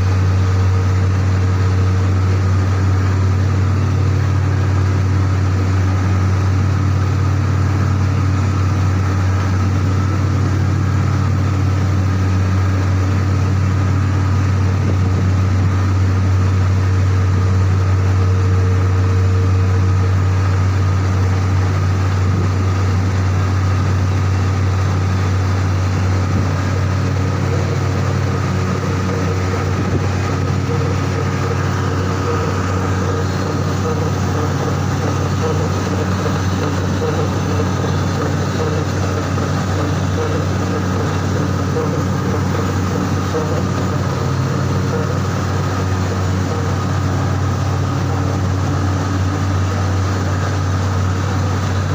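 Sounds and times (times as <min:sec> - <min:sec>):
heavy machinery humming: 0:00.0 - 0:51.9.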